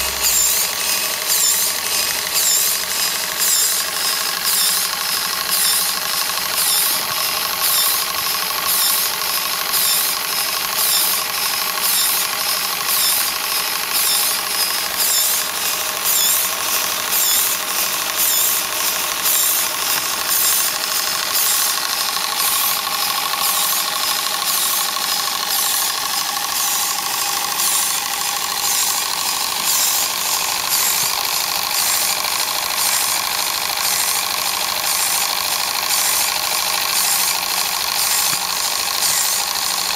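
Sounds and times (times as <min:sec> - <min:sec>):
steam pump ticking and puffing: 0:00.0 - 0:39.9.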